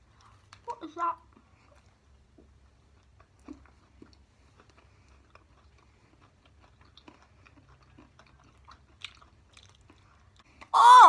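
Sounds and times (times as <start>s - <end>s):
chewing chocolate: 1.3s - 10.8s.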